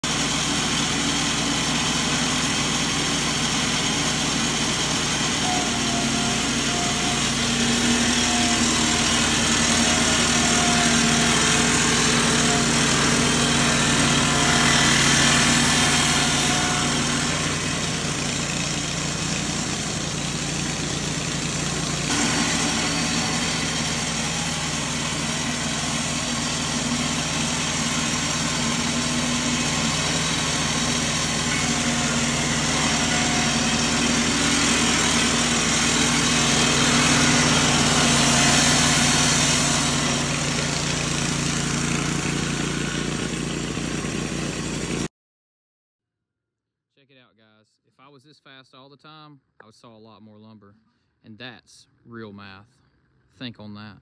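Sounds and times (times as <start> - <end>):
gasoline engine running: 0.0 - 45.1
saw hissing whine: 0.0 - 45.1.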